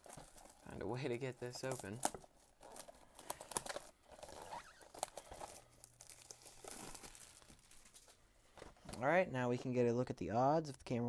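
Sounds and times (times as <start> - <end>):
plastic shrink-wrap peeling and crinkling: 0.0 - 9.0.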